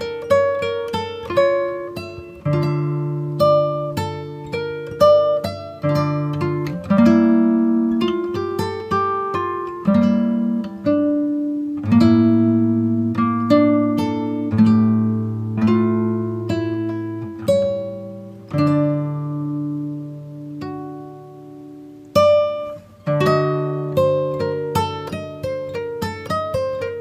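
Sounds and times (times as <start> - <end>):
acoustic guitar picking and strumming: 0.0 - 27.0.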